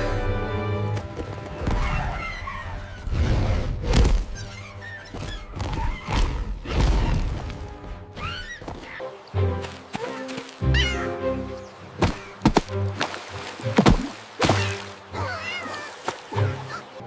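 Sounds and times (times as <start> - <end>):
dramatic cartoon music: 0.0 - 17.0.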